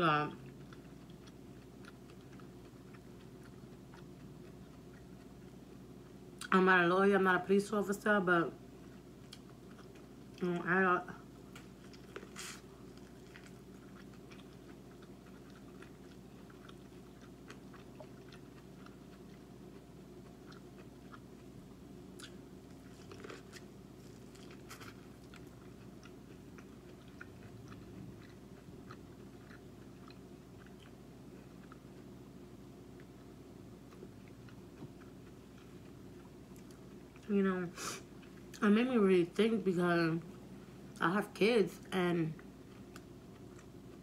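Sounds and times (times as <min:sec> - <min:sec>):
steady low hum: 0:00.0 - 0:44.0
chewing corn on the cob: 0:00.2 - 0:06.6, 0:08.7 - 0:37.3, 0:38.0 - 0:38.6, 0:42.4 - 0:44.0.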